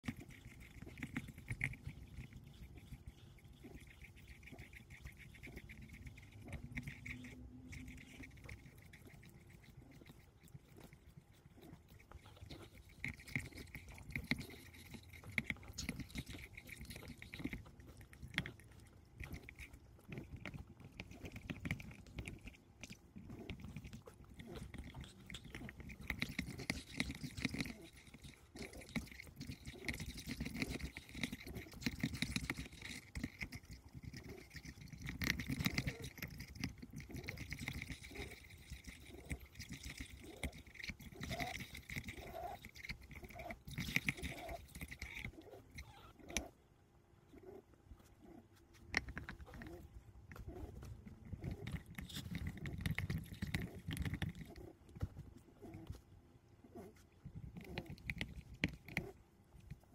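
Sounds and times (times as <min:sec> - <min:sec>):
puppy gnawing on a toy: 0:00.0 - 0:46.6, 0:47.3 - 0:59.9.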